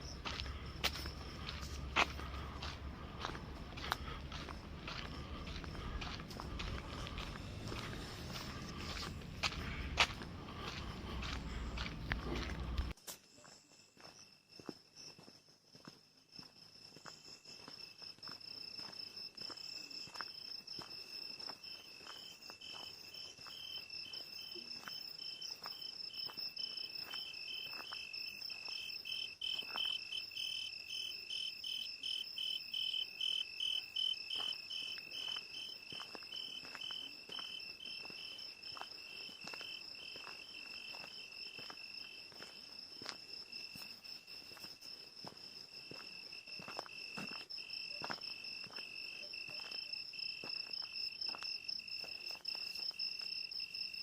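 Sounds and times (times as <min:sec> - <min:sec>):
crickets trilling: 0:00.0 - 0:15.3, 0:16.3 - 0:54.0
pulsing cricket chirp: 0:00.0 - 0:54.0.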